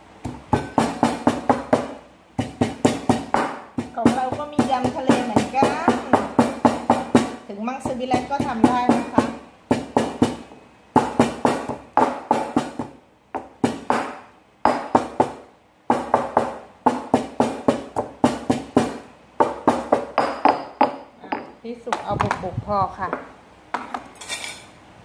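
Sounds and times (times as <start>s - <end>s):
stone pestle pounding in mortar: 0.2s - 22.0s.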